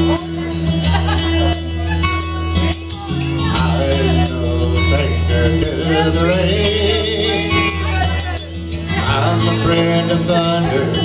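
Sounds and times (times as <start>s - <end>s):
bass: 0.0s - 11.0s
drums keeping a beat: 0.0s - 11.0s
guitar melody: 0.0s - 11.0s.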